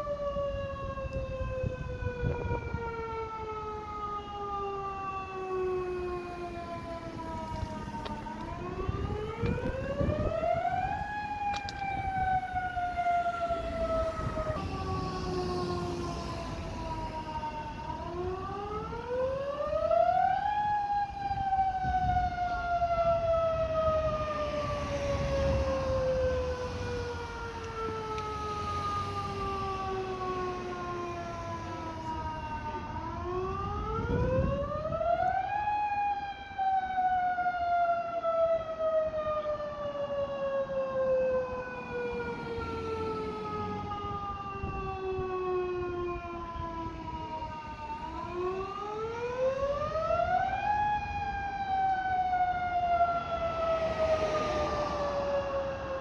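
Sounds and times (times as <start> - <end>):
fire siren wailing: 0.0 - 56.0.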